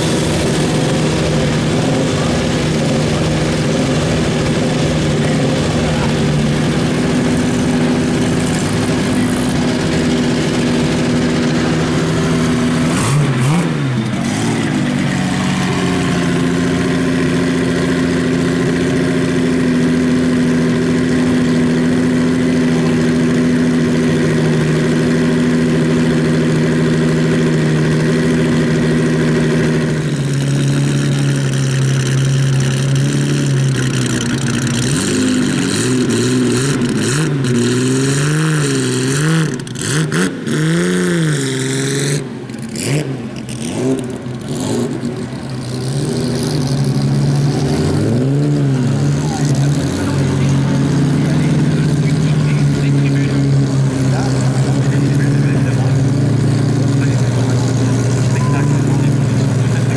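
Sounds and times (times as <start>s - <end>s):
car engine idling: 0.0s - 59.9s
racing car engine revving: 0.0s - 59.9s.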